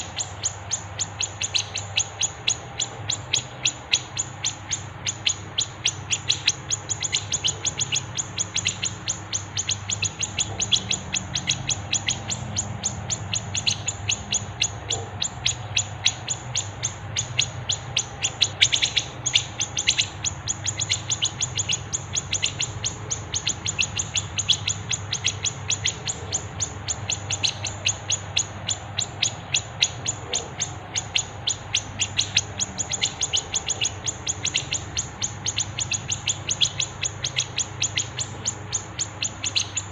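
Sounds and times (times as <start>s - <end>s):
faint low hum: 0.0s - 39.9s
songbirds chirping: 0.0s - 39.9s.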